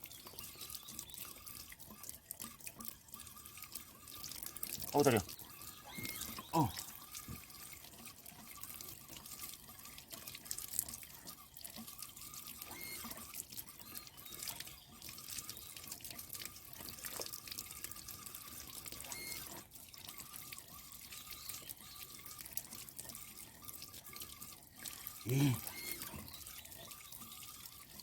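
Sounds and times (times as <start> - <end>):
water running and dripping: 0.0 - 28.0.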